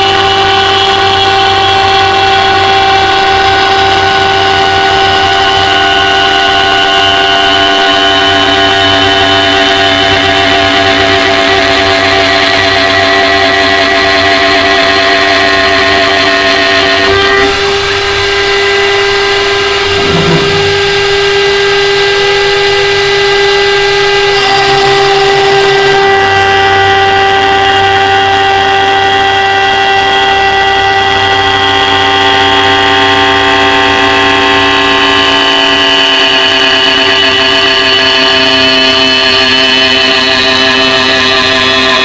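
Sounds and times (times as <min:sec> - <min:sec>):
wood lathe motor whine: 0:00.0 - 0:42.0.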